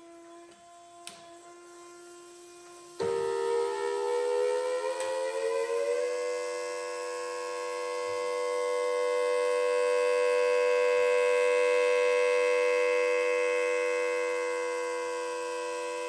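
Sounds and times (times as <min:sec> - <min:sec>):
steady siren tone: 0:00.0 - 0:16.0.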